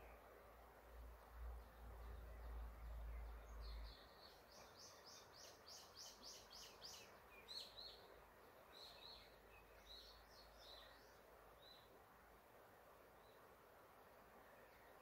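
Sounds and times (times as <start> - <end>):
forest birds singing: 0.0 - 12.1, 12.9 - 15.0.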